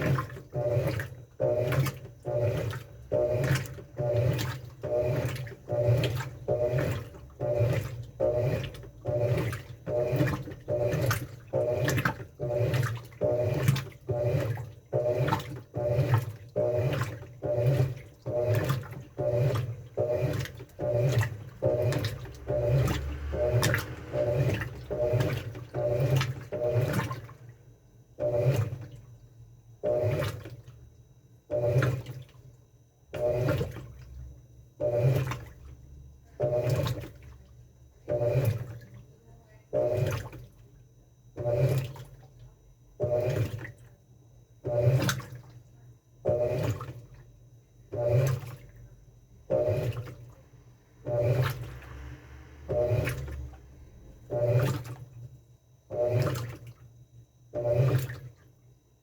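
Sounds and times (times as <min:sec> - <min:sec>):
washing machine motor hum: 0:00.0 - 0:59.0
washing machine sloshing: 0:00.0 - 0:59.0.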